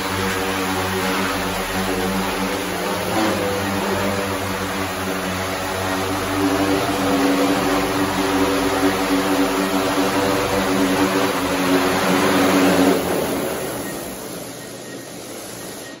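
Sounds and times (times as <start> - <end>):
drone motors spinning down: 0.0 - 16.0
drone propellers humming: 0.0 - 16.0.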